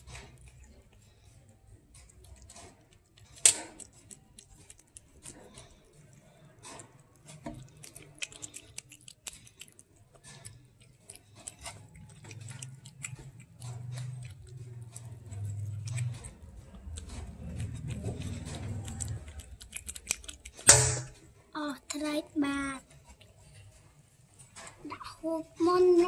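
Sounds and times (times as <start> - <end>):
cat chewing and crunching: 0.0 - 26.0.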